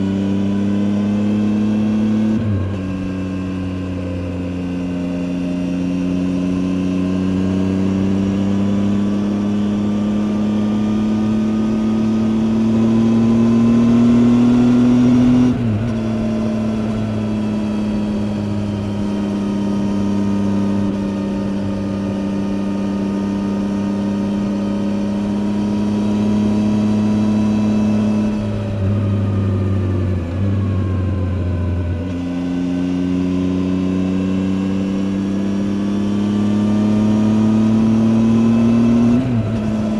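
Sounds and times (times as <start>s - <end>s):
motorcycle engine running: 1.0s - 39.9s.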